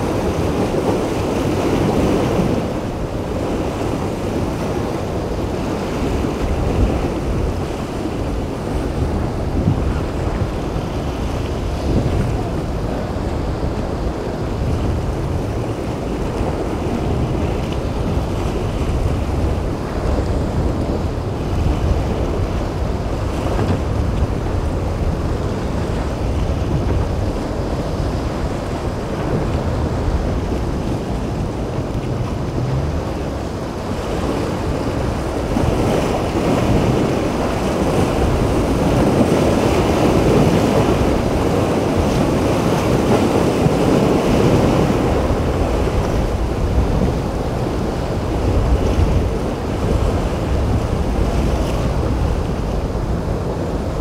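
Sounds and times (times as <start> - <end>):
surf and churning water: 0.0 - 54.0
wind noise on microphone: 0.0 - 54.0.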